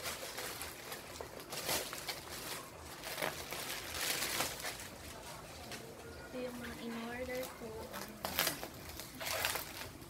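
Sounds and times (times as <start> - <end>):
plastic bags rustling and crinkling: 0.0 - 10.0.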